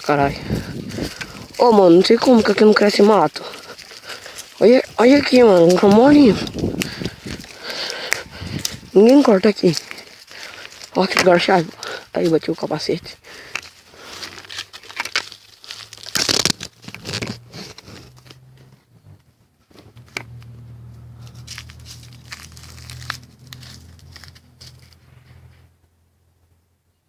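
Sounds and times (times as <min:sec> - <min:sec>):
rustling against microphone: 0:00.0 - 0:20.4, 0:21.2 - 0:25.8.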